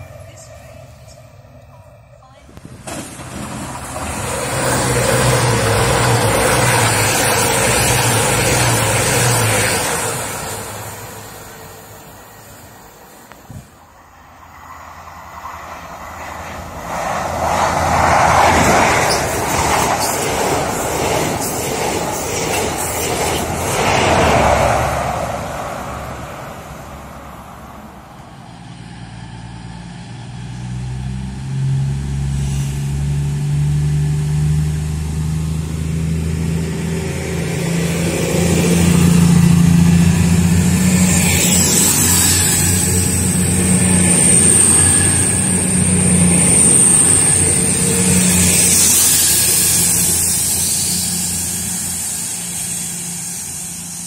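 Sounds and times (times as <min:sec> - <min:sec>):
diesel train engine hum: 0:00.0 - 0:54.0
train rushing past: 0:00.0 - 0:54.0.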